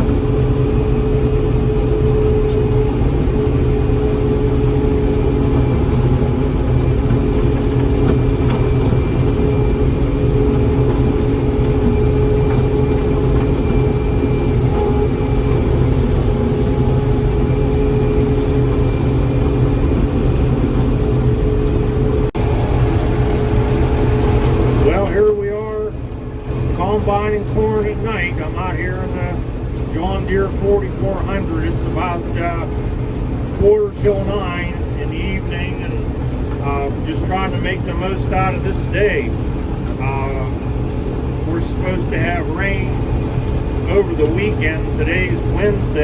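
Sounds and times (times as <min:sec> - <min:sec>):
combine harvester engine droning: 0:00.0 - 0:46.0.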